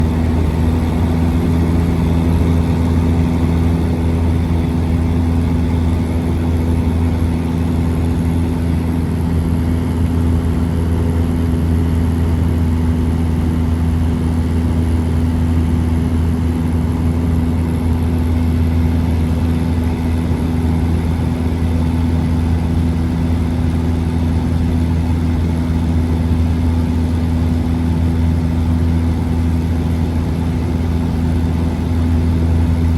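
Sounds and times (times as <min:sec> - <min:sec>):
small aircraft engine droning: 0:00.0 - 0:32.9.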